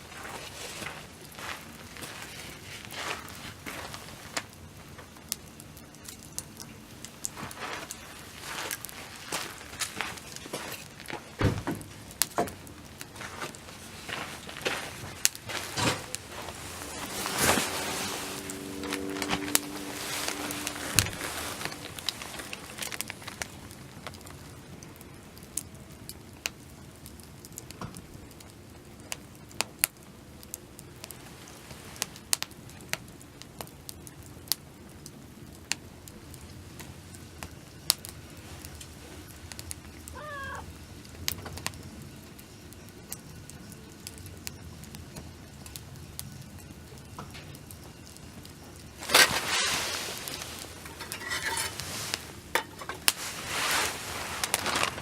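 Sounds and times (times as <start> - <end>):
campfire crackling and popping: 0.0 - 55.0
low steady hiss: 0.0 - 55.0.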